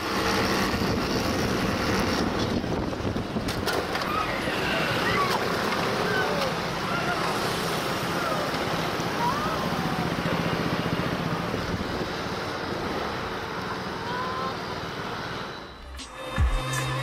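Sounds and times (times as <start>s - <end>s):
scooter engines running: 0.0s - 17.0s
scooter traffic noise: 0.0s - 17.0s.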